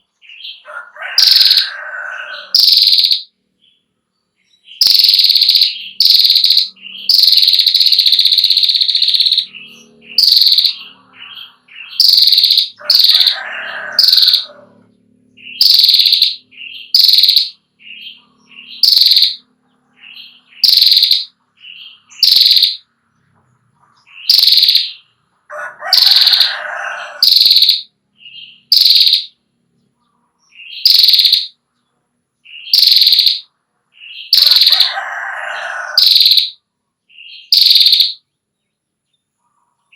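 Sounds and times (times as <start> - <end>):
bird chattering trills: 0.0 - 3.3, 4.5 - 22.9, 23.8 - 29.4, 30.4 - 31.6, 32.5 - 36.6, 37.2 - 38.2
bird sharp high calls: 0.0 - 3.3, 4.5 - 22.9, 23.9 - 29.4, 30.4 - 31.6, 32.5 - 38.2
lower harsh bird chatters: 0.0 - 3.3, 4.5 - 22.9, 23.5 - 29.4, 30.0 - 31.6, 32.5 - 36.6.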